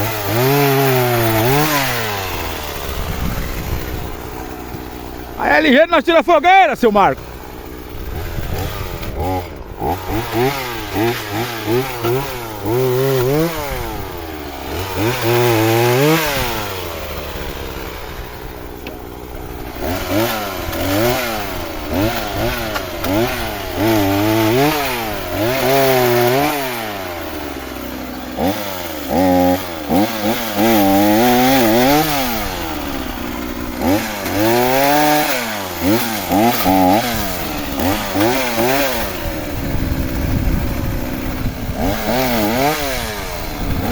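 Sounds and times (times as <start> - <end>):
chainsaw revving cutting wood: 0.0 - 43.9.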